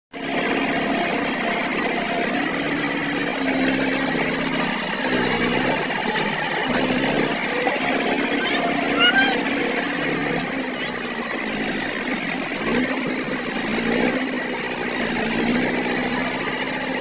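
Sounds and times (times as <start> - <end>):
tractor diesel engine straining: 0.1 - 17.0.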